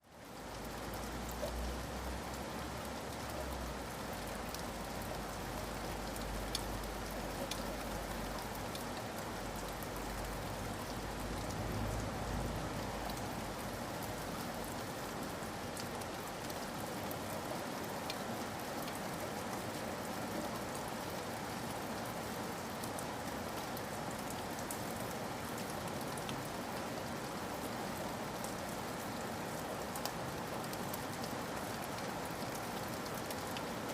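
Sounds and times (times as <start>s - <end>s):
rain falling in forest: 0.0s - 33.9s.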